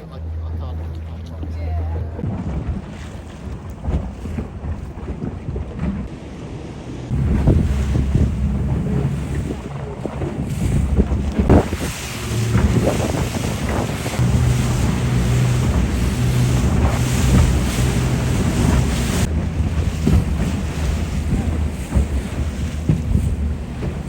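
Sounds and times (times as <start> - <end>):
motor boat engine hum: 0.0 - 24.0
water rushing past hull: 0.0 - 24.0
wind buffeting microphone: 1.4 - 24.0.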